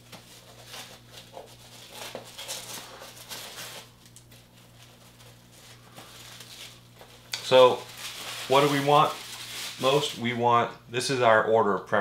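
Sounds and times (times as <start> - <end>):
tissue paper rustling and crinkling: 0.0 - 10.4.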